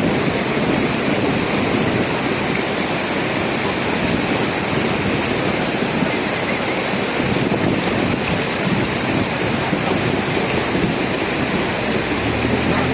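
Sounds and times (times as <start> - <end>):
fast-flowing water rushing: 0.0 - 12.9.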